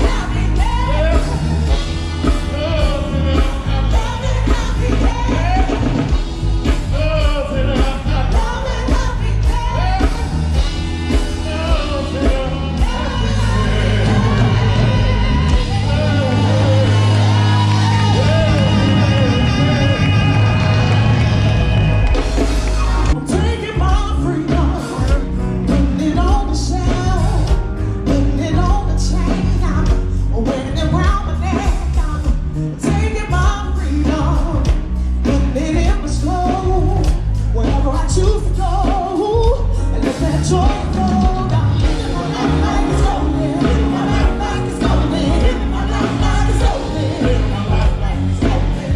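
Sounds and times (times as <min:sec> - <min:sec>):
band playing: 0:00.0 - 0:48.9
person singing: 0:00.0 - 0:48.9.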